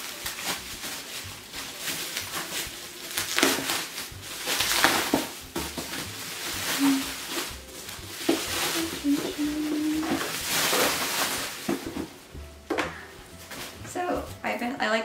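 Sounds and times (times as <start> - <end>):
bubble wrap crinkling: 0.0 - 14.8.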